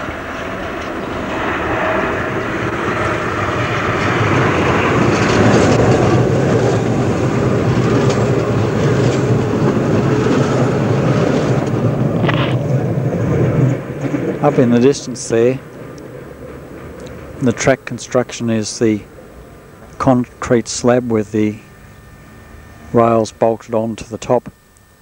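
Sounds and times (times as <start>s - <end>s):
tram wheels rumbling on rails: 0.0s - 24.1s.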